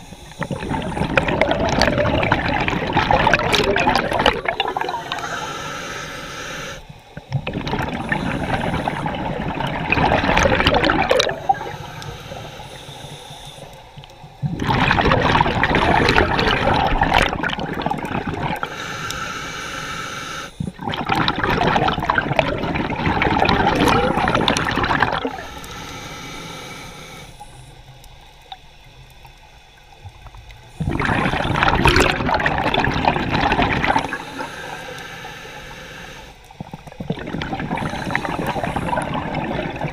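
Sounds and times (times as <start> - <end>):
exhaled bubbles underwater: 0.0 - 5.8, 6.5 - 19.3, 20.6 - 25.9, 27.4 - 35.6, 36.4 - 39.9.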